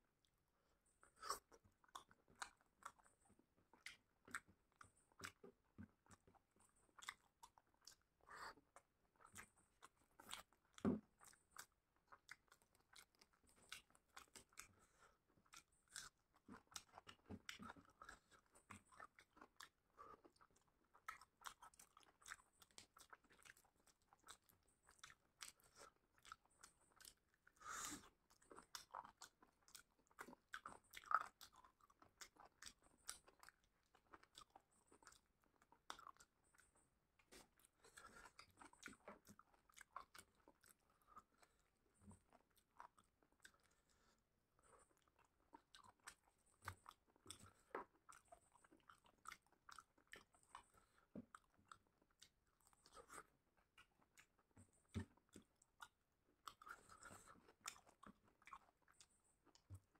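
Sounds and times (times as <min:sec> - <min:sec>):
person chewing food: 0:00.2 - 0:59.9.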